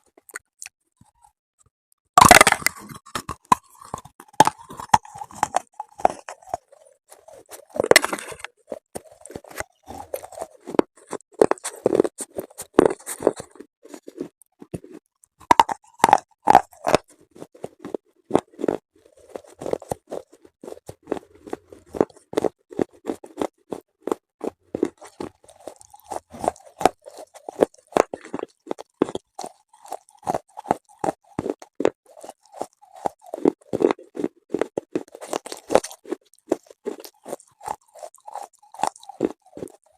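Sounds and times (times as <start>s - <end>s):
person chewing brittle pieces: 2.2s - 39.9s.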